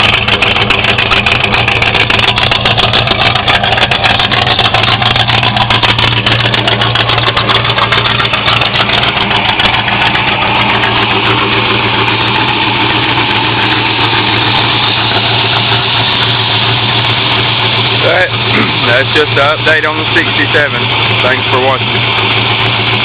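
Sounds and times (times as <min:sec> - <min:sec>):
pickup truck engine idling: 0:00.0 - 0:23.0.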